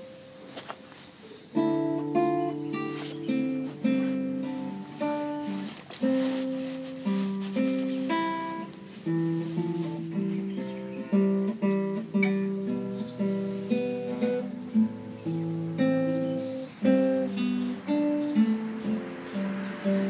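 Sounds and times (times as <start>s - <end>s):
fingerstyle classical guitar: 0.0s - 20.0s.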